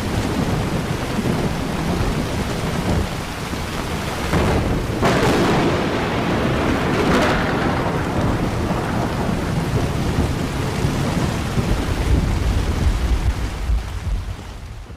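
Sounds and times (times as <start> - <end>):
heavy rain falling: 0.0 - 14.9
thunder rumbling: 0.0 - 14.9.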